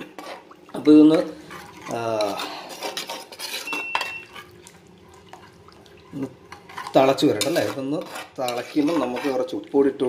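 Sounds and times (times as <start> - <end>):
spoon scraping clay pot: 0.0 - 4.6, 6.1 - 9.6.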